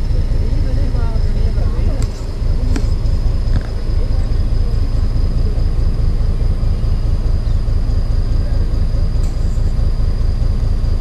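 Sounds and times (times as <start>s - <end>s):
train rumble and rattle: 0.0s - 11.0s
thin high whine: 1.0s - 11.0s.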